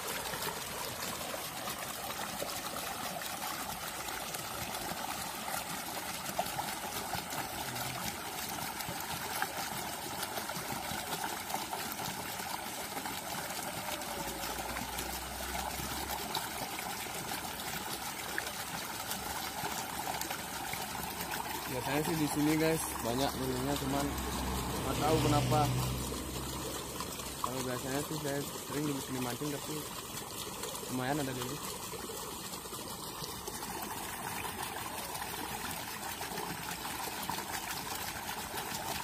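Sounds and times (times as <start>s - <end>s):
water trickling: 0.0s - 39.0s.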